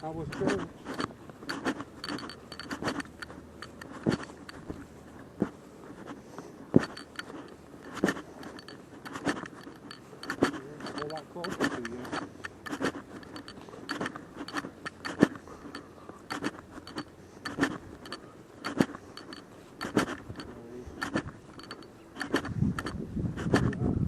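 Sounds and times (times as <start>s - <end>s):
metal items jingling: 0.0s - 5.2s, 6.7s - 23.0s
footsteps walking: 0.0s - 22.9s.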